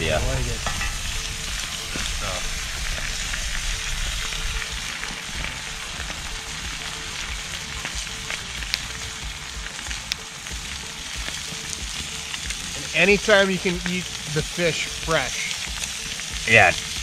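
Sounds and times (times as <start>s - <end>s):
fish sizzling in a pan: 0.0s - 17.0s
sharp pops of frying: 0.6s - 17.0s.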